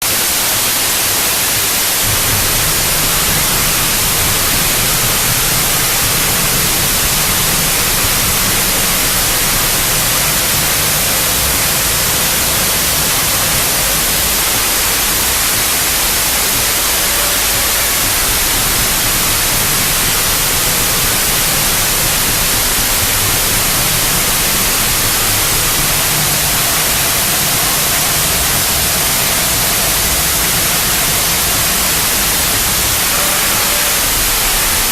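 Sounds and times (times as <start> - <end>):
loud static hiss: 0.0 - 34.9
wavering low rumble: 2.0 - 34.9.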